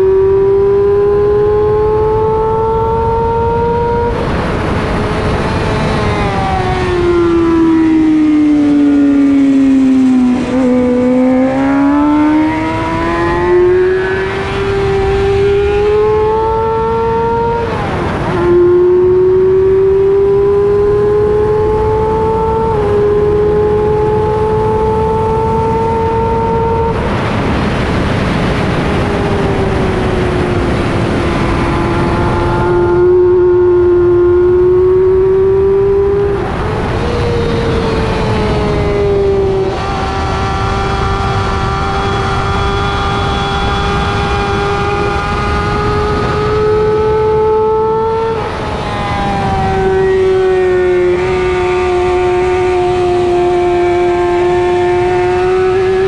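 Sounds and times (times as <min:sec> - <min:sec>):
motorcycle engine at high revs: 0:00.0 - 0:56.0
wind rush over microphone: 0:00.0 - 0:56.0.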